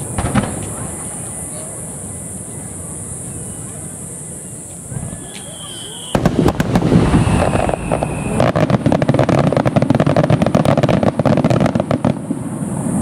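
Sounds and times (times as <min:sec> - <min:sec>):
firework shells booming: 0:00.0 - 0:02.8, 0:04.8 - 0:13.0.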